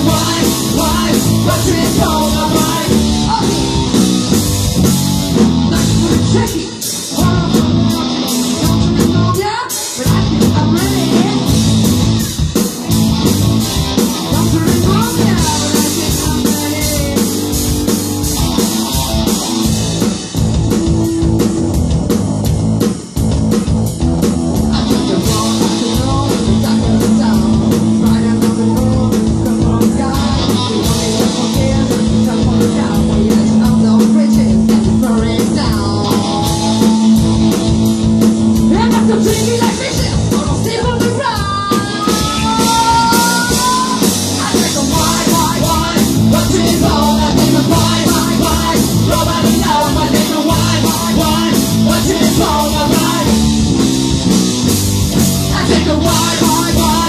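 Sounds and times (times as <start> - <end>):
bass guitar: 0.0 - 57.0
distorted electric guitars: 0.0 - 57.0
drum kit beat: 0.0 - 57.0.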